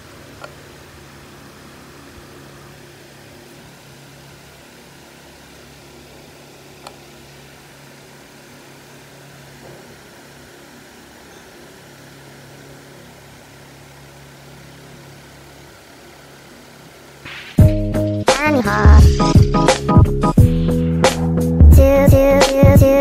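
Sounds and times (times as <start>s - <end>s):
low room hum and hiss: 0.0s - 20.3s.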